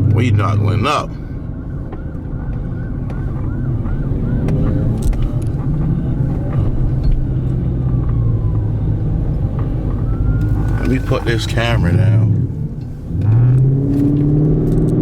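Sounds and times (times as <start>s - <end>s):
car engine and road rumble: 0.0s - 15.0s
faint police siren: 0.1s - 13.8s.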